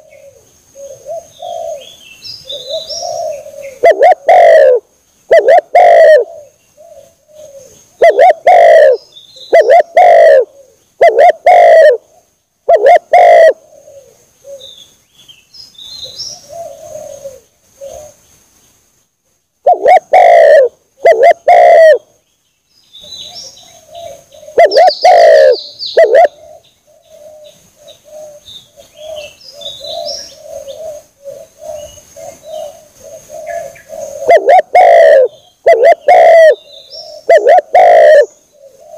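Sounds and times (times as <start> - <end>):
small birds chirping: 0.0 - 11.3, 12.0 - 20.4, 21.0 - 38.9
dove cooing: 0.0 - 14.8, 16.0 - 18.2, 19.6 - 22.1, 23.0 - 38.9.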